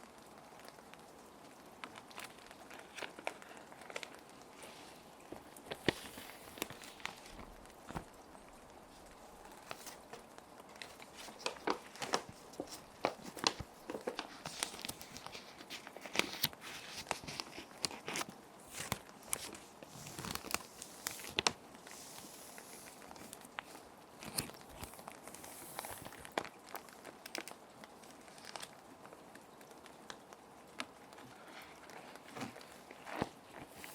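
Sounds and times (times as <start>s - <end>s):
background rain hiss: 0.0s - 33.9s
plastic sheet protectors crinkling: 1.8s - 28.9s, 30.7s - 33.9s.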